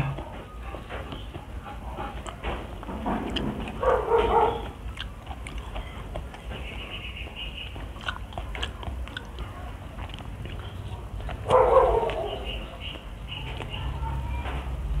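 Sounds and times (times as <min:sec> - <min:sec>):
fingers clicking and smacking: 0:00.0 - 0:13.9
chewing: 0:00.0 - 0:14.6.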